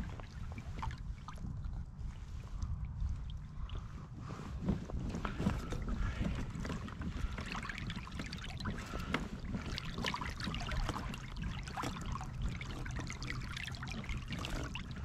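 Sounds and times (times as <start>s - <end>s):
water splashing and trickling: 0.0s - 15.0s
wind rumble on microphone: 0.0s - 15.0s.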